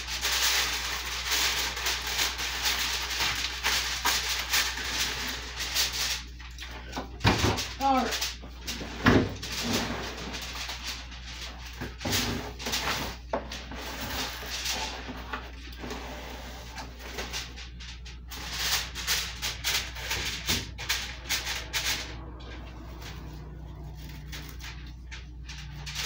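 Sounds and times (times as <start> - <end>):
cling film crinkling: 0.0 - 15.9, 16.6 - 26.0.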